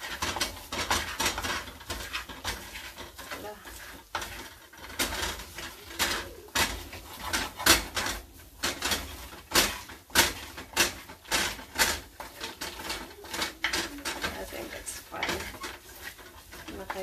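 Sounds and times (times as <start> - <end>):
spatula scraping frying pan: 0.0 - 17.0.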